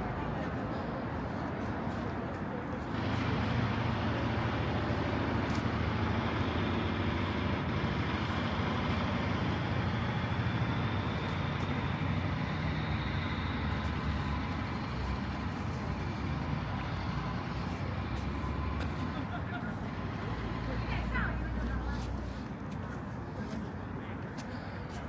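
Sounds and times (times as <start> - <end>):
low engine rumble: 0.0 - 24.2
vehicles passing: 0.0 - 25.0.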